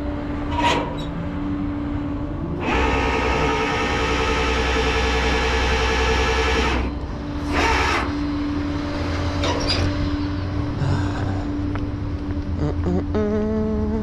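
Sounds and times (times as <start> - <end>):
winch mechanical whine: 0.0 - 11.8
low steady hum: 0.0 - 14.0.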